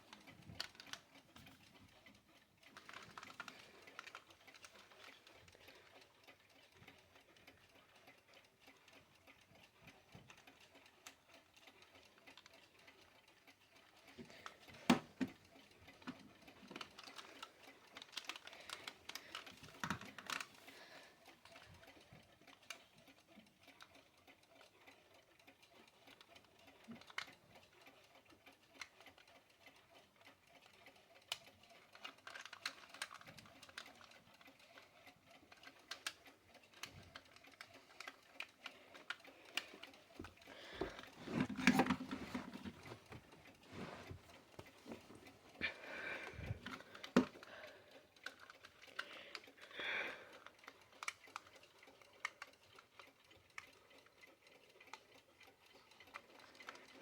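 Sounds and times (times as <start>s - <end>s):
clock clicks and taps: 0.0s - 49.6s.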